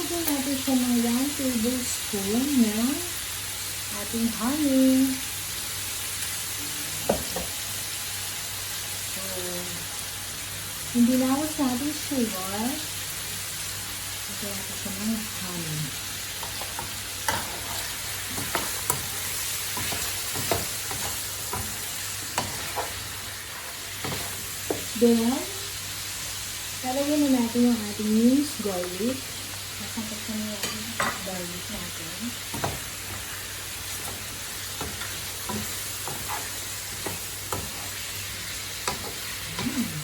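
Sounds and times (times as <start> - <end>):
ribs sizzling in a pan: 0.0 - 40.0.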